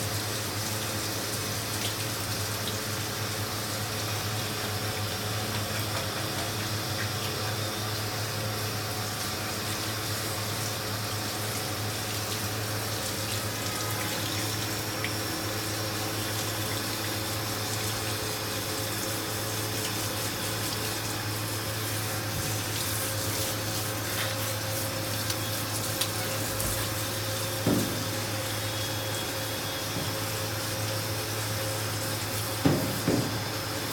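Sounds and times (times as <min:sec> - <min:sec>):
water spraying on dog's coat: 0:00.0 - 0:33.9
water splashing on steel tub: 0:00.2 - 0:33.9.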